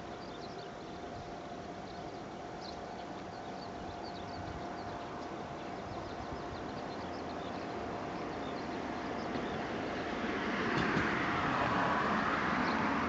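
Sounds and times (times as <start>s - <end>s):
diesel railcar engine: 0.0s - 13.0s.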